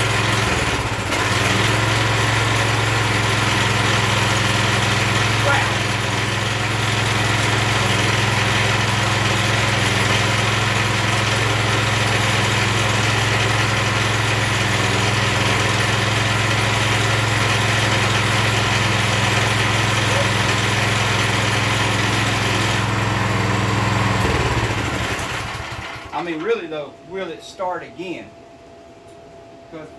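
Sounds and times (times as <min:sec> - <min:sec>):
pressure washer engine running: 0:00.0 - 0:26.4.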